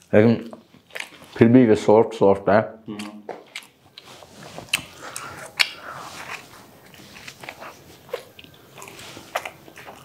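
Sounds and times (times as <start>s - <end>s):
close chewing noises: 0.0s - 1.6s, 2.9s - 10.0s.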